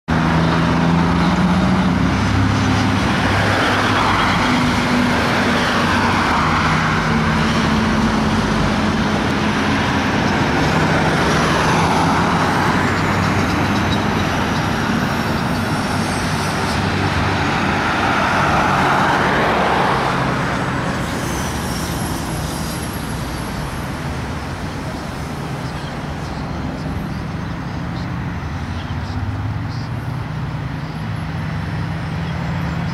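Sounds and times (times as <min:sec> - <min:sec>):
truck diesel engine droning: 0:00.1 - 0:32.9
tyre noise of passing vehicles: 0:00.1 - 0:32.9.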